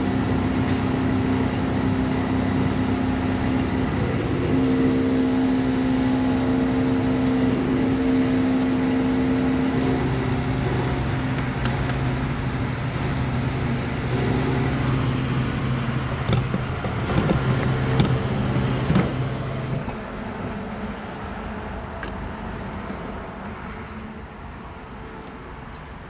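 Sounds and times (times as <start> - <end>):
vehicle engine idling: 0.0 - 25.8.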